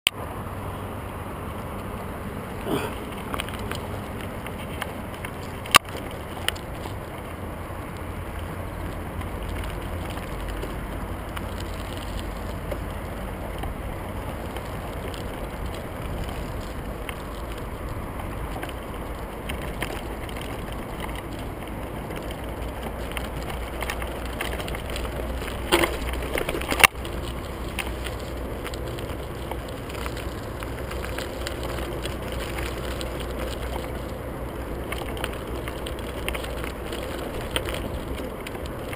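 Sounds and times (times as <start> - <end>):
wind: 0.0 - 38.9
bike tyres rumbling on gravel: 0.1 - 38.9.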